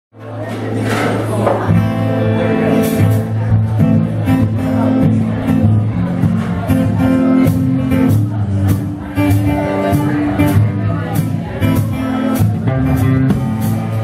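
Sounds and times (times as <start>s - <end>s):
country-rock band playing: 0.2s - 14.0s
bass line: 1.6s - 14.0s.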